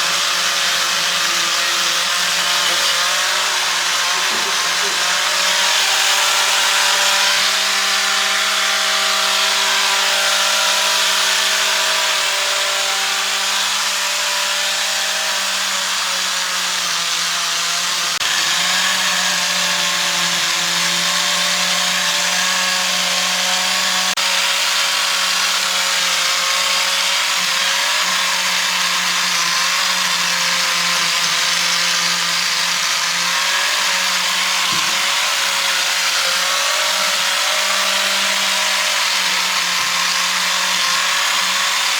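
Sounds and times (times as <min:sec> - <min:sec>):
power tool humming: 0:00.0 - 0:41.9.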